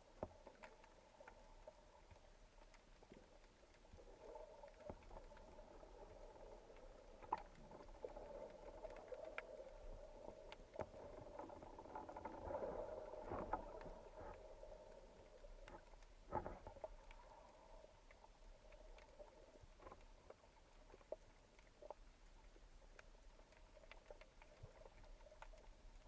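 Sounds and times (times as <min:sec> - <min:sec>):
low underwater hum: 0:00.0 - 0:26.0.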